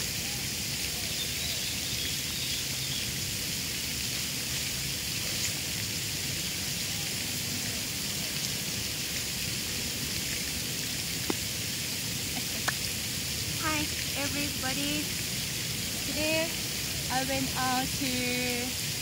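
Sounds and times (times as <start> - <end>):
water fountain splashing: 0.0 - 19.0.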